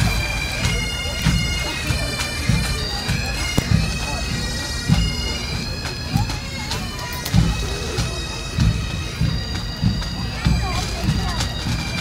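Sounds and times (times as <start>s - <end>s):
bagpipes playing: 0.0s - 12.0s
low drum beat: 0.0s - 12.0s.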